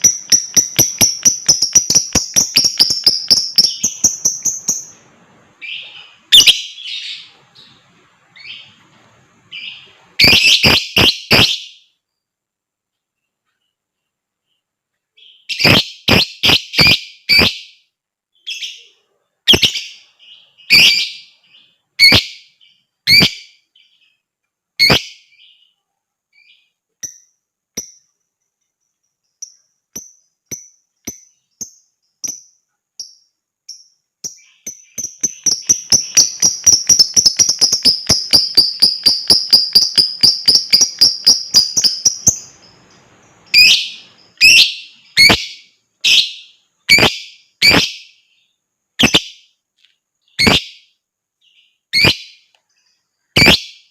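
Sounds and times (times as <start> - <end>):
lovebird chirping and trilling: 0.0 - 8.8, 9.4 - 12.0, 15.2 - 24.2, 24.8 - 49.6, 50.2 - 53.9.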